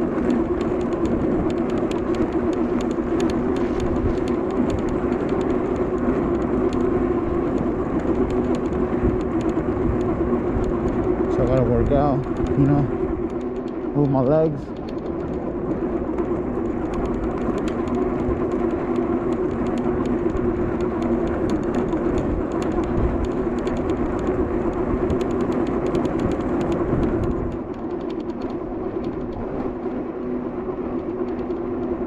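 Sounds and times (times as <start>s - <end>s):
fine crackling ticks: 0.0s - 30.3s, 30.9s - 32.0s
e-bike motor hum: 0.0s - 32.0s
wind rushing over microphone: 0.0s - 32.0s.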